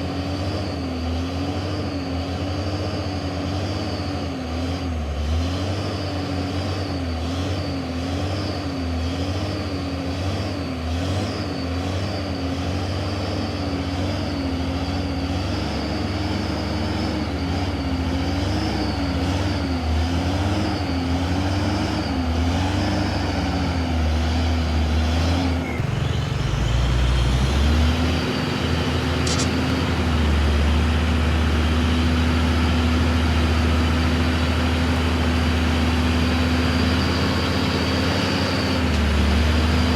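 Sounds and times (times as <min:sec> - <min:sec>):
truck diesel engine labouring: 0:00.0 - 0:39.9.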